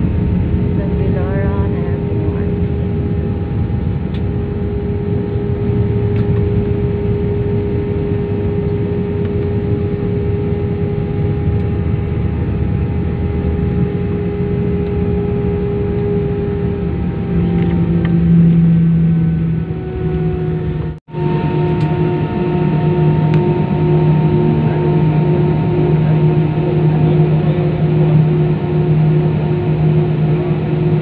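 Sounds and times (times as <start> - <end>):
jet engine whine and rumble: 0.0 - 31.0.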